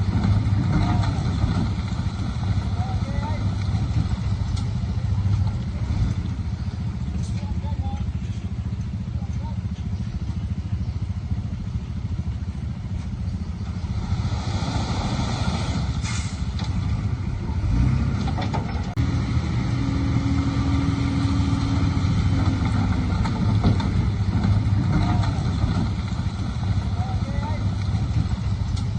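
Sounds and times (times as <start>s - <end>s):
diesel machinery engine running: 0.0s - 28.9s.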